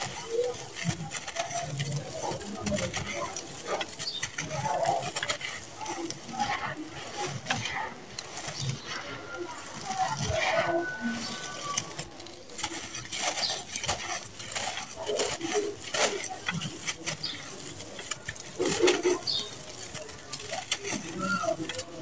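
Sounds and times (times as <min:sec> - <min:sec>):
grit pouring down: 0:00.0 - 0:22.0
sand-cement chunks crushed by hand: 0:00.0 - 0:22.0.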